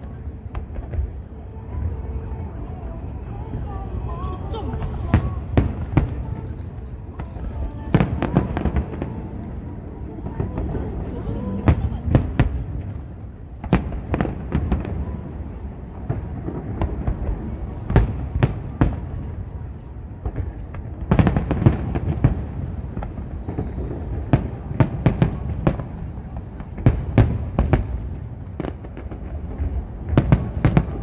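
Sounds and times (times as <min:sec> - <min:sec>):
firework bangs: 0:03.5 - 0:31.0.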